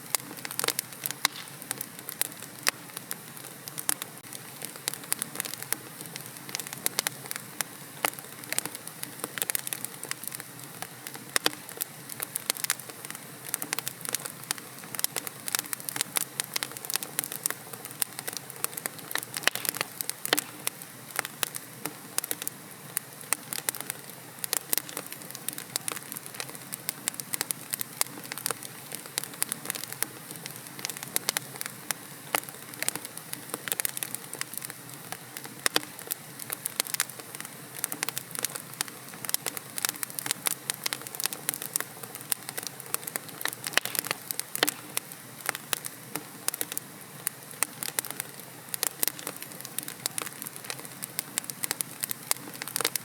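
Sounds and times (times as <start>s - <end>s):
logs burning in fireplace: 0.0s - 53.0s.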